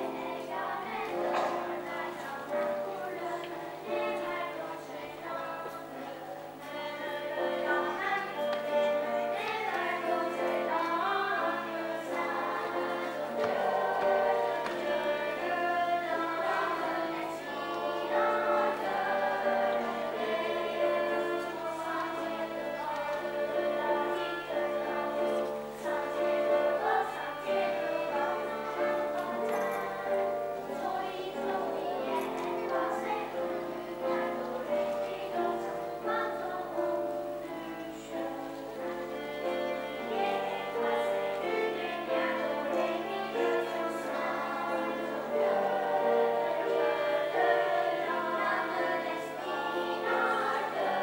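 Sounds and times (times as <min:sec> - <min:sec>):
children's choir singing: 0:00.0 - 0:51.0
violin: 0:00.0 - 0:51.0.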